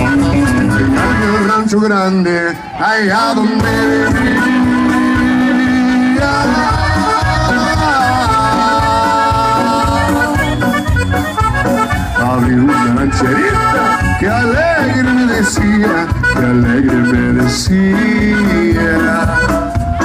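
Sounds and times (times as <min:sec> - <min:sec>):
live band playing: 0:00.0 - 0:20.0.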